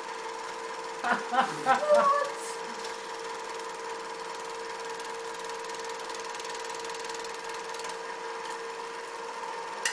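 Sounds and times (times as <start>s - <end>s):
film projector clatter: 0.0s - 9.9s
projector whine: 0.0s - 9.9s.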